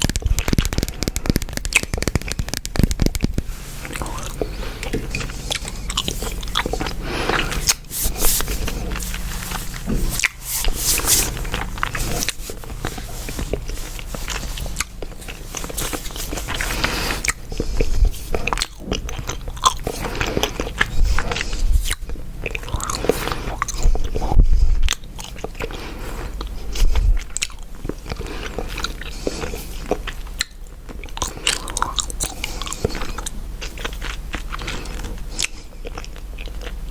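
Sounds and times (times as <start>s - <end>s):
mouth chewing gum: 0.0s - 36.9s.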